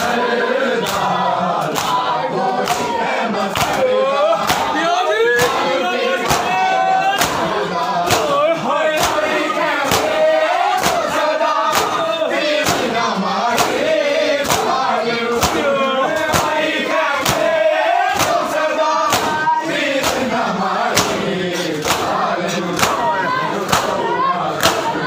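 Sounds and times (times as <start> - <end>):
men chanting: 0.0 - 25.0
hands slapping chests: 0.8 - 4.8, 5.4 - 6.6, 7.2 - 8.4, 9.0 - 10.2, 10.8 - 14.8, 15.4 - 16.6, 17.2 - 24.0, 24.6 - 25.0.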